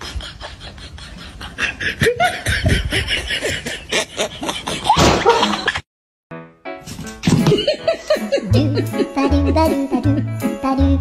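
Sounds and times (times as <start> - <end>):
person laughing: 0.0 - 5.8, 7.4 - 10.4.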